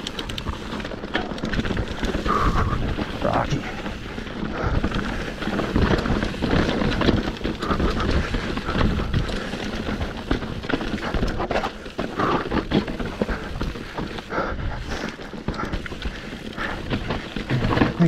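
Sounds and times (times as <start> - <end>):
bike frame and chain clatter: 0.0 - 18.0
tyres crunching over rocks: 0.0 - 18.0.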